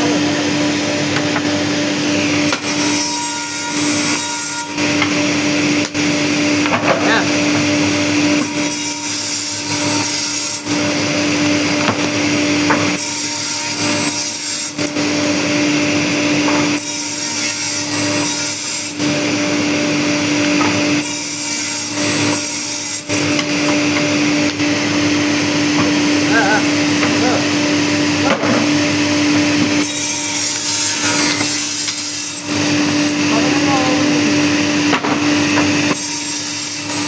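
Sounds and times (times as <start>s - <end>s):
electric cutting machine running: 0.0s - 37.0s.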